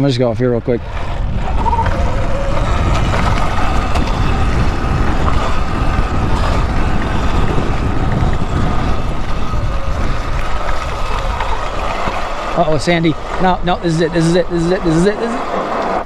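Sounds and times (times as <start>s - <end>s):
electric motor whine: 0.0s - 16.0s
wind buffeting microphone: 0.0s - 16.0s.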